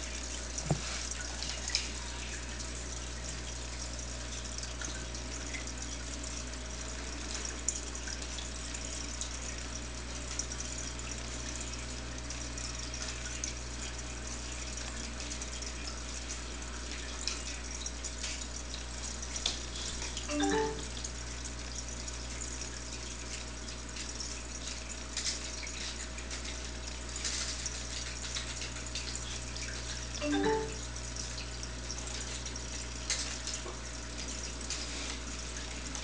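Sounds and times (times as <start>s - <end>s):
aquarium filter hum: 0.0s - 36.0s
trickling water: 0.0s - 36.0s.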